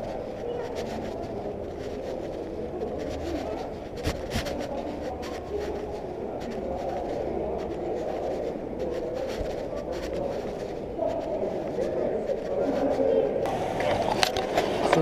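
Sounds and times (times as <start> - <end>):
clothing rubbing against camera: 0.0 - 15.0
footsteps: 0.0 - 15.0.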